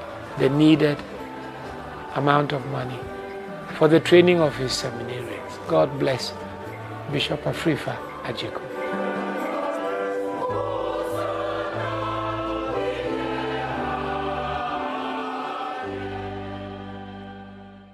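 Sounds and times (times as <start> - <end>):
choir singing sustained notes: 0.0 - 17.9.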